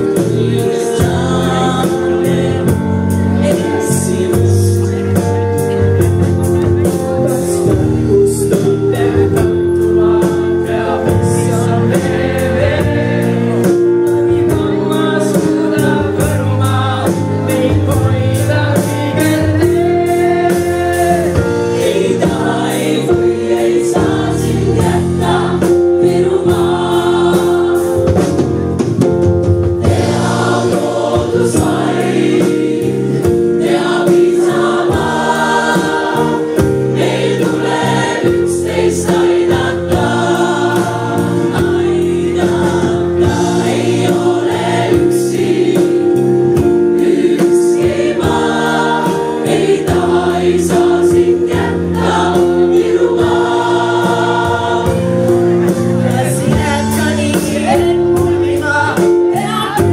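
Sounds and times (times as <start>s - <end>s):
choir of young voices singing: 0.0s - 5.2s, 6.8s - 28.3s, 29.8s - 59.9s.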